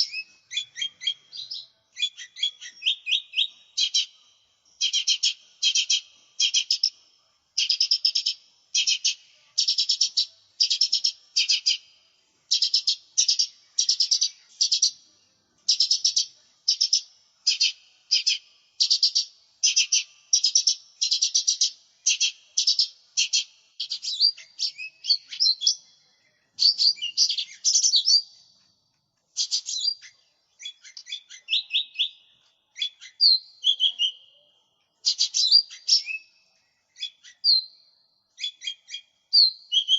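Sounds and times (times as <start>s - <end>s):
bird singing trilled phrases: 0.0s - 28.5s, 29.4s - 39.9s.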